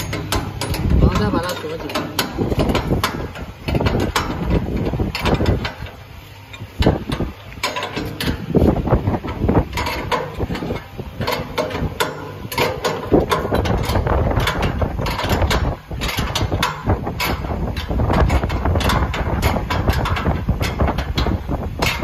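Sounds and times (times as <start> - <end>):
wrenches clicking on metal bolts: 0.0 - 22.0.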